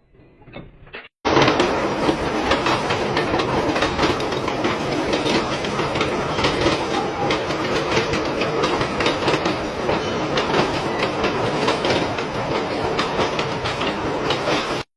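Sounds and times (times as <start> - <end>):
factory machinery clattering: 0.4 - 14.8.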